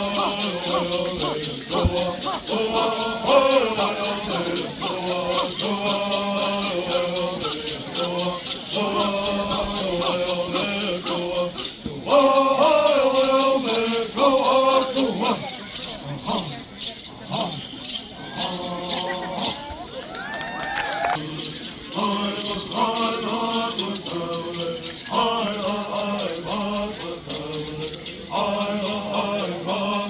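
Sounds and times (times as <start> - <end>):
voices singing in unison: 0.0 - 19.9, 20.8 - 30.0
gourd rattles shaking: 0.0 - 30.0.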